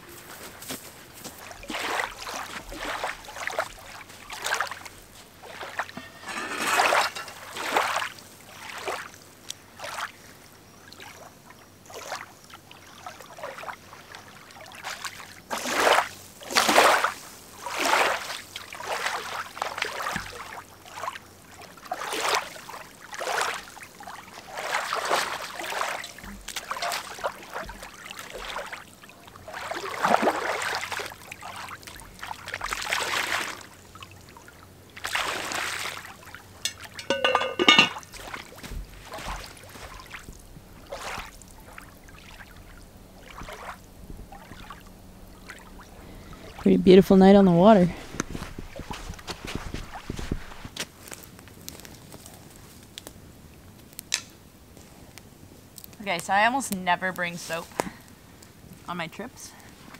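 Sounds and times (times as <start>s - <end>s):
lake water splashing and sloshing: 0.0s - 52.5s.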